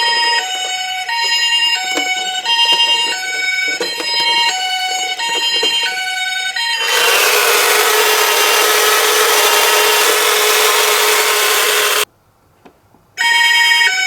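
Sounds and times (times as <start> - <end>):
toy car rolling rasp: 0.0 - 12.1.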